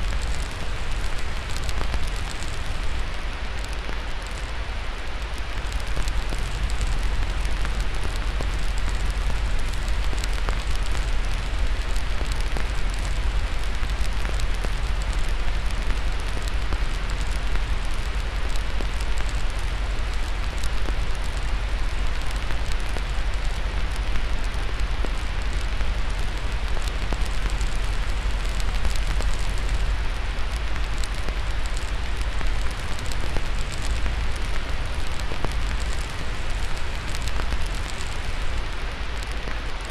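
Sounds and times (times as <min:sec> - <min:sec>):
fire crackling and popping: 0:00.0 - 0:39.9
white-noise hiss: 0:00.0 - 0:39.9.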